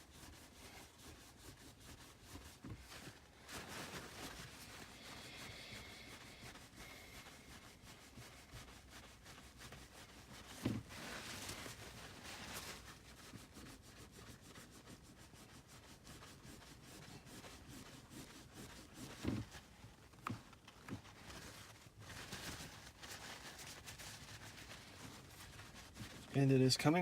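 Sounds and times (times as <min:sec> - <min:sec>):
paper towel rubbing: 0:00.0 - 0:27.0.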